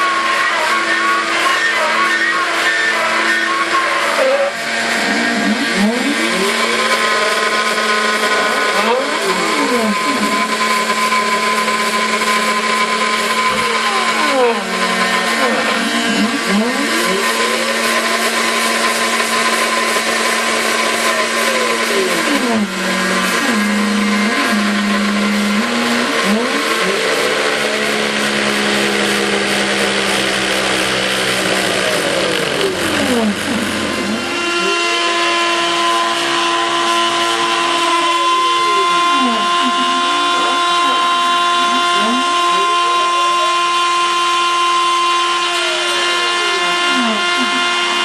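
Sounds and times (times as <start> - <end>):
spindle humming: 0.0 - 48.0
stepper motors whining: 0.0 - 48.0.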